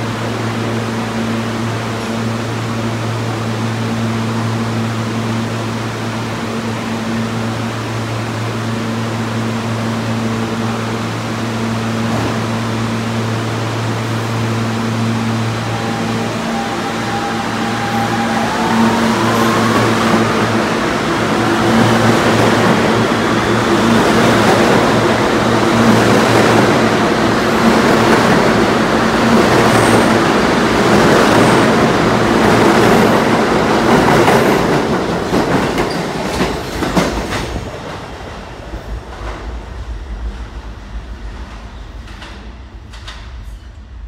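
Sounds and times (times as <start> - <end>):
subway train rumbling past: 0.0 - 44.0.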